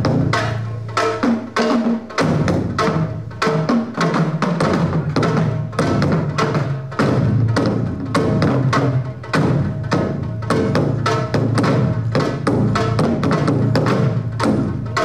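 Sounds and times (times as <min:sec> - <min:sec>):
drums beaten with sticks: 0:00.0 - 0:15.0.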